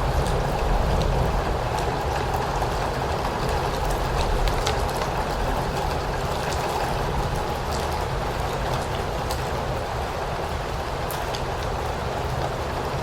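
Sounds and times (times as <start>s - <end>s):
steady rainfall hiss: 0.0s - 13.0s.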